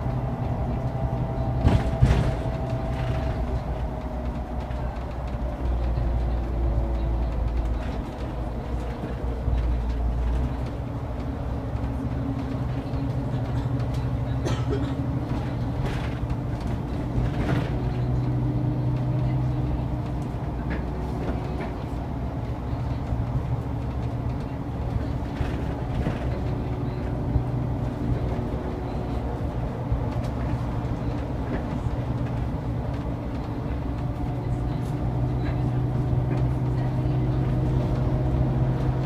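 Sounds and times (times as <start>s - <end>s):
bus engine hum: 0.0s - 39.0s
road noise: 0.0s - 39.0s.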